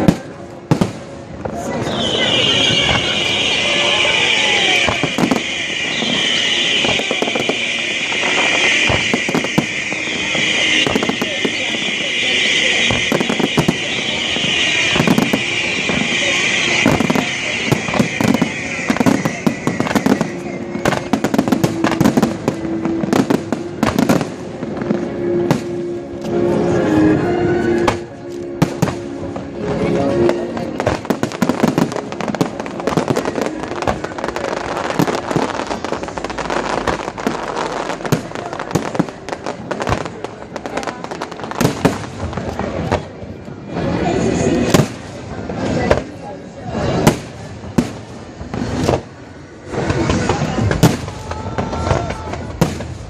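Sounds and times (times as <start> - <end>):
fireworks bangs and pops: 0.0 - 26.4, 27.8 - 53.0.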